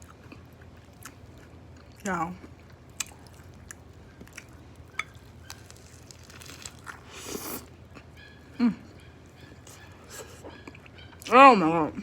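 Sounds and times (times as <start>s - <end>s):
close chewing with mouth clicks: 0.0s - 8.1s, 9.6s - 11.3s.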